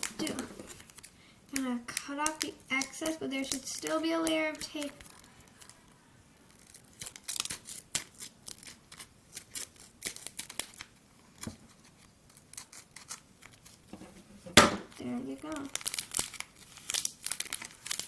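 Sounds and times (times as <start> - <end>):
tape crinkling: 0.0 - 14.0, 14.8 - 18.0.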